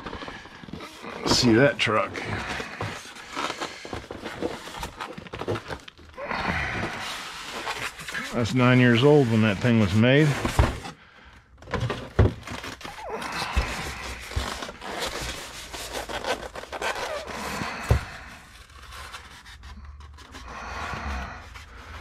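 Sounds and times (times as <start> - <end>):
styrofoam rubbing and scraping: 0.0 - 10.9, 12.1 - 22.0.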